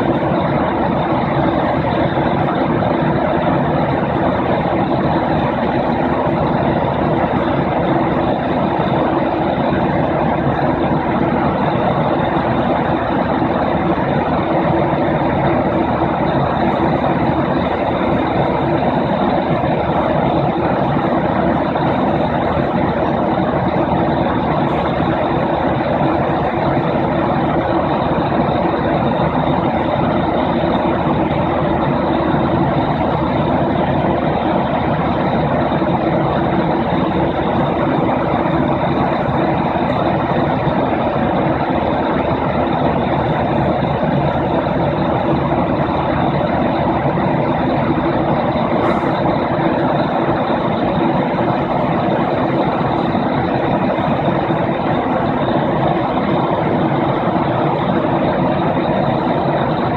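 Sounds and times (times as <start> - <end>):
airplane cabin engine drone: 0.0 - 59.9
low hum tones: 0.0 - 59.9.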